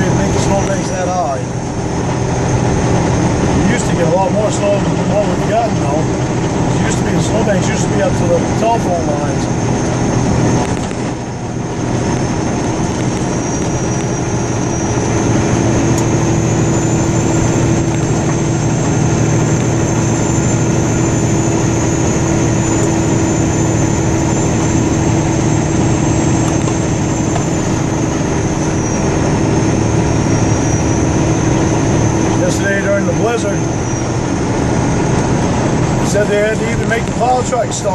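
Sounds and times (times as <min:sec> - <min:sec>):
engine and road noise in cabin: 0:00.0 - 0:37.9.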